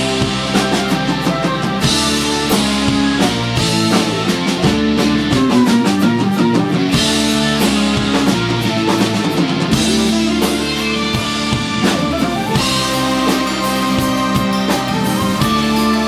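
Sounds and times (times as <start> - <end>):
drum strikes: 0.0 - 16.0
rock band playing: 0.0 - 16.0.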